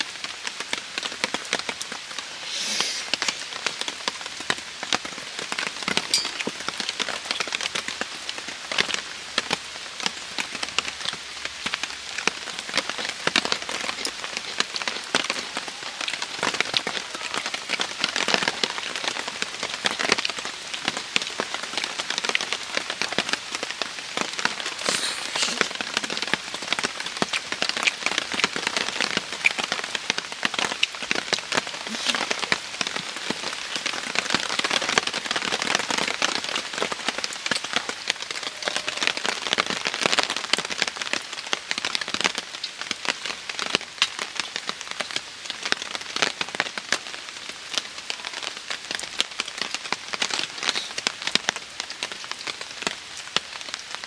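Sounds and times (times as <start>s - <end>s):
heavy rain on a tarp: 0.0s - 54.0s.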